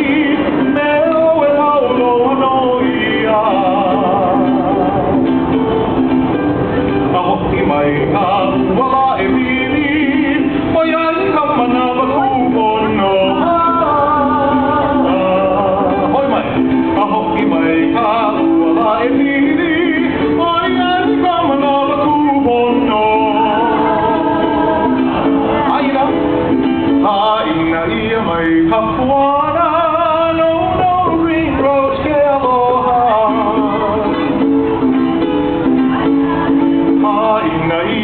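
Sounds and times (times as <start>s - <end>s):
person singing with vibrato: 0.0s - 5.7s, 7.0s - 38.0s
instrumental accompaniment: 0.0s - 38.0s.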